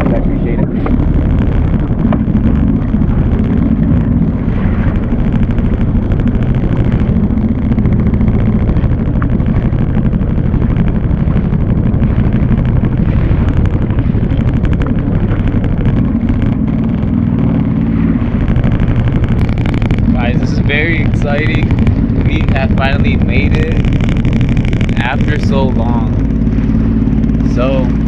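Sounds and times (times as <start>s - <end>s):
jet ski engine running: 0.0s - 28.0s.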